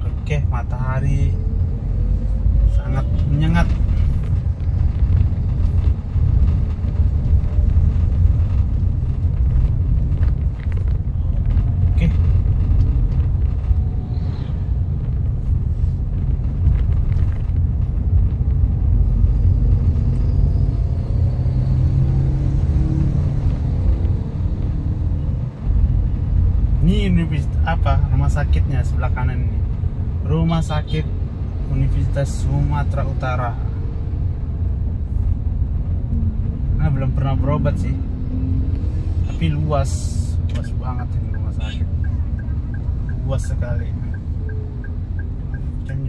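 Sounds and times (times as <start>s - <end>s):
road vehicle rumble: 0.0s - 46.0s.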